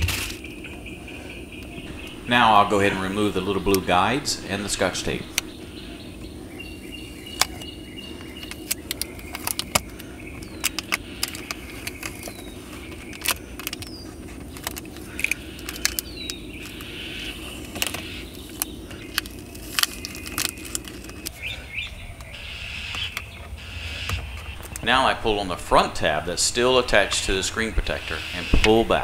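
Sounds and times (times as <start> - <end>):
steady low hum: 0.4 - 29.0.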